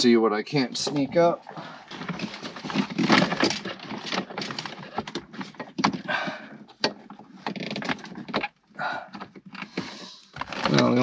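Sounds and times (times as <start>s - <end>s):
rustling and scraping of wiring: 0.6s - 11.0s.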